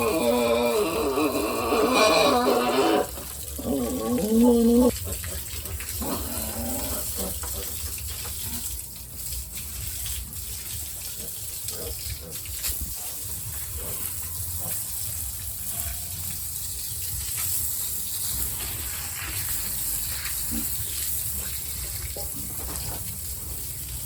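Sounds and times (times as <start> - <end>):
running water gushing: 0.0 - 24.0.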